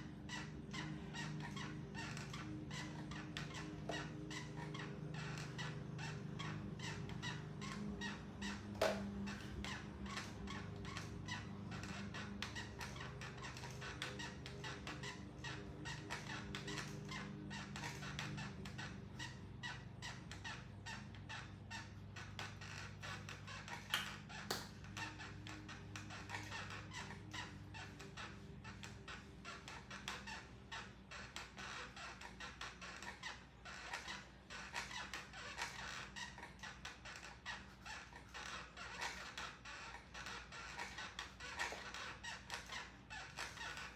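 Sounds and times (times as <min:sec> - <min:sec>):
exercise bike flywheel hum: 0:00.0 - 0:43.9
rhythmic squeak of pedalling: 0:00.0 - 0:43.9.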